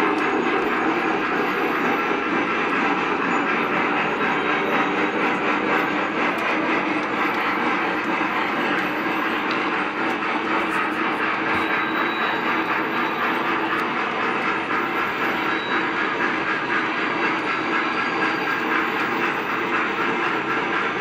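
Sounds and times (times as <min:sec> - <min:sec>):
model train rumbling on rails: 0:00.0 - 0:21.0.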